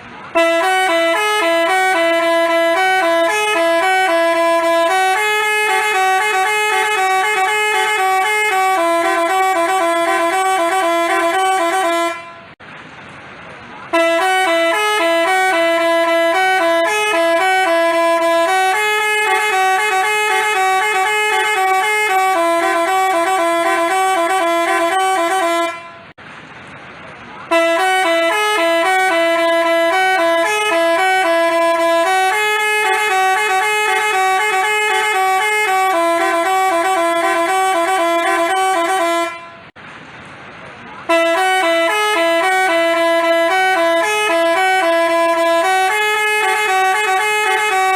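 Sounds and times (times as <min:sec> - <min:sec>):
multi-tone bus horn jingle: 0:00.0 - 0:12.6, 0:13.8 - 0:26.2, 0:27.4 - 0:39.8, 0:41.0 - 0:47.9.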